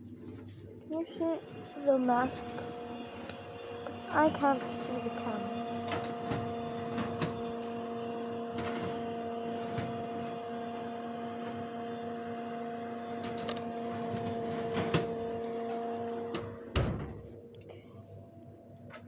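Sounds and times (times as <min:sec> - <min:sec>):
electrical appliance hum: 0:00.0 - 0:19.0.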